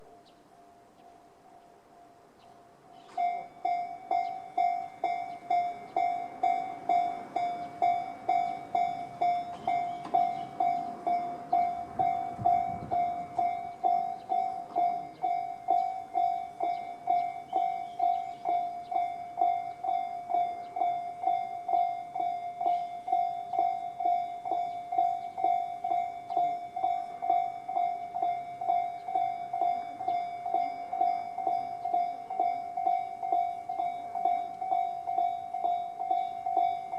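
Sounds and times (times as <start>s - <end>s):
level crossing warning bells: 0.0s - 36.9s
train rumbling: 0.0s - 36.9s.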